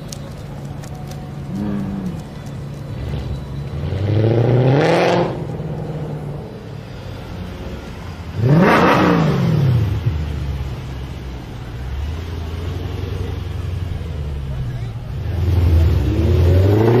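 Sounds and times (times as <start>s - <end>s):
engine running low note: 0.0s - 17.0s
car engine revving: 1.4s - 17.0s.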